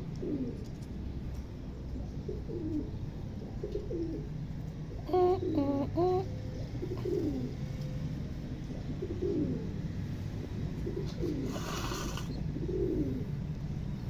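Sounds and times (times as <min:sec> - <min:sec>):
pigeons cooing: 0:00.0 - 0:00.7, 0:02.0 - 0:07.8, 0:08.6 - 0:13.4.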